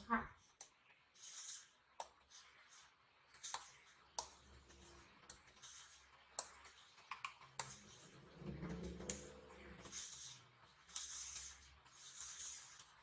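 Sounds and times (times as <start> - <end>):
stylus scratching on screen: 0.0 - 13.0.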